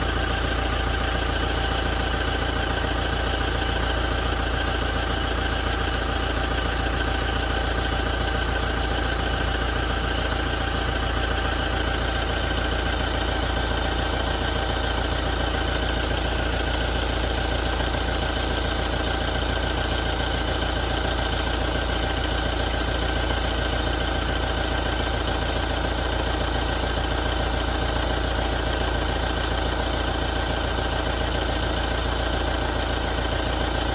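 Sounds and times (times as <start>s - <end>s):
diesel engine idling: 0.0s - 33.9s
engine knocking and rattling: 0.0s - 33.9s.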